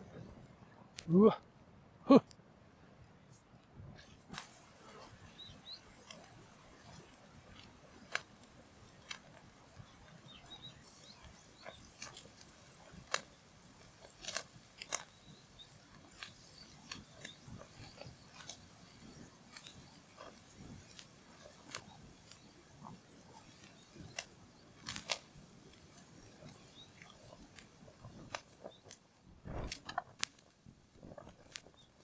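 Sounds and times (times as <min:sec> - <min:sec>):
charcoal fire crackling and popping: 0:04.3 - 0:32.0.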